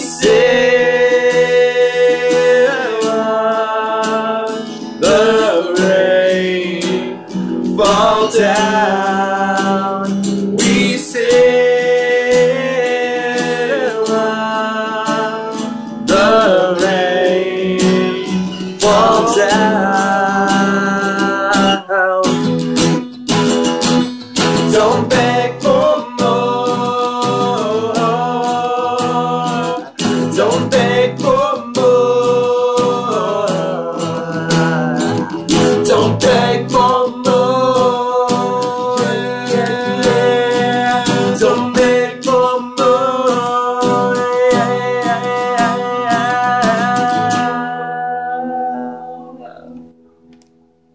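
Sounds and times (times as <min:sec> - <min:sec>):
men singing together: 0:00.0 - 0:22.1, 0:24.5 - 0:48.8
strummed guitars: 0:00.0 - 0:50.9.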